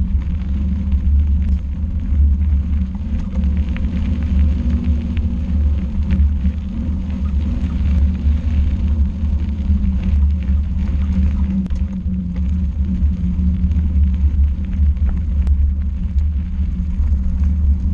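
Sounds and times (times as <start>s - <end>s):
faint gravel clicks: 0.0s - 17.9s
vehicle rumbling on gravel: 0.0s - 17.9s.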